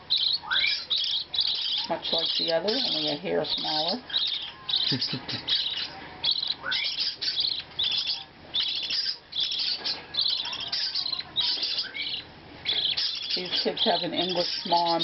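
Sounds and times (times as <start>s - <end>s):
chicks chirping: 0.0s - 15.0s.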